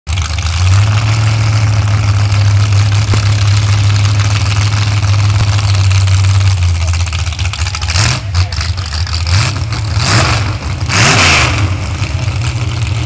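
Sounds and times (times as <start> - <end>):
pickup truck engine idling: 0.1 - 13.0.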